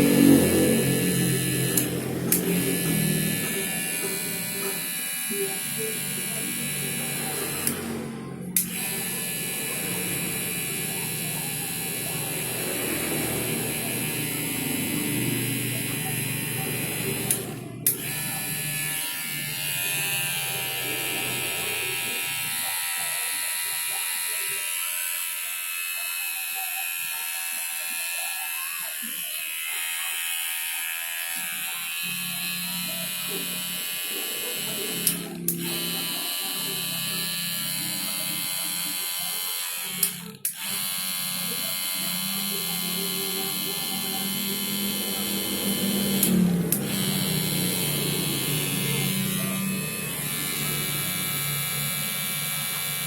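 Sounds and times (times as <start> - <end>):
hair clipper motor whining: 0.0 - 53.0.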